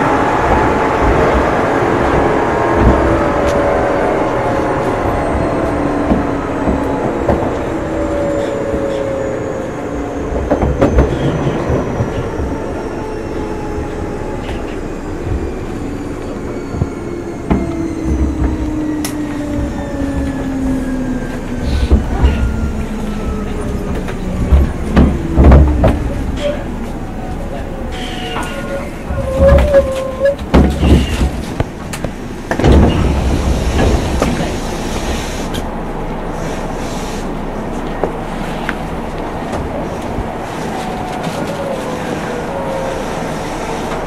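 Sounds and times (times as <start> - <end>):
traction motors whining: 0.0 - 44.0
wheel and track rumble: 0.0 - 44.0.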